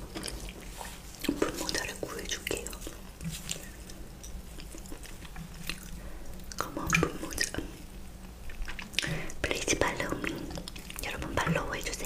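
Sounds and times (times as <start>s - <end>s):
mouth chewing: 0.0s - 9.4s, 10.0s - 11.3s.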